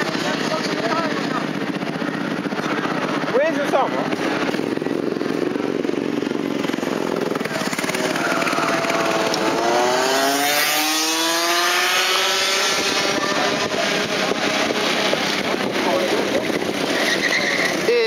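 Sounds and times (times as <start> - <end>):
go-kart engines running: 0.0 - 18.0
kart engine accelerating: 0.0 - 18.0.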